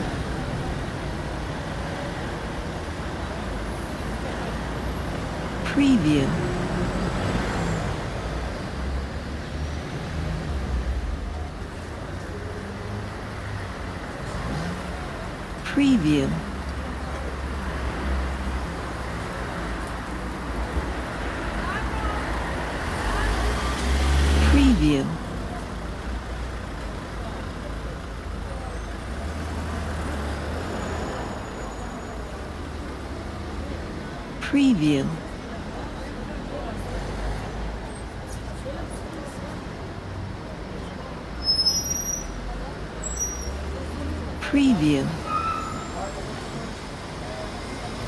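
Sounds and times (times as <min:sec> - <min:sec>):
rumble of vehicles: 0:00.0 - 0:48.0.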